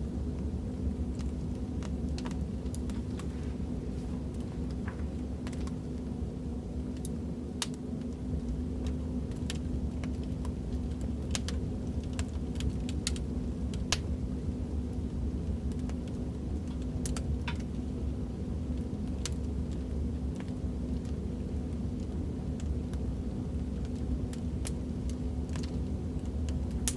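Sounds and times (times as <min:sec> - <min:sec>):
fireplace crackling and popping: 0:00.0 - 0:26.9.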